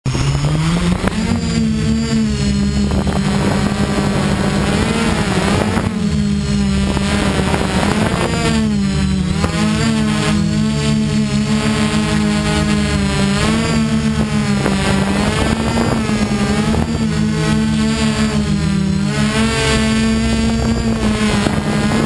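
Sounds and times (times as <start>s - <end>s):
drone propellers humming: 0.1s - 22.0s.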